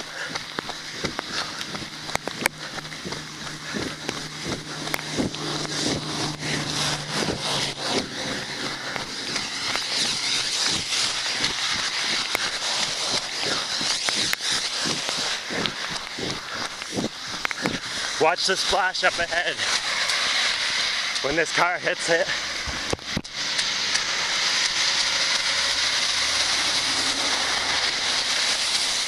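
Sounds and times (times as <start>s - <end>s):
heavy rain: 0.0s - 29.0s
tyres hissing on wet road: 0.0s - 29.0s
vehicle engine hum: 0.0s - 29.0s.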